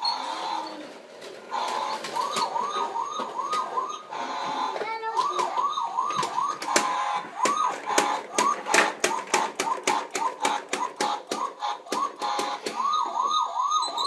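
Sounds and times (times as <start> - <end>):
toy electronic siren wailing: 0.0 - 14.0
plastic toys clacking on wood: 1.2 - 14.0.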